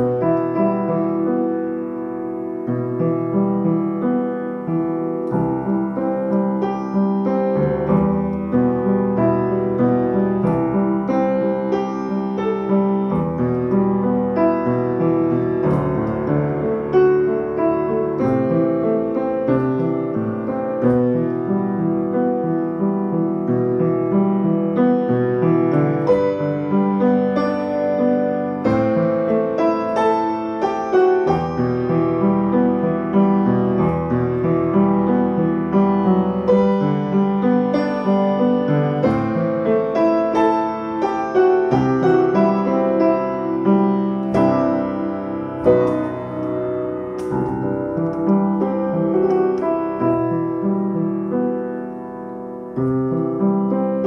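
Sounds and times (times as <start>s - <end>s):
solo piano playing: 0.0s - 54.0s.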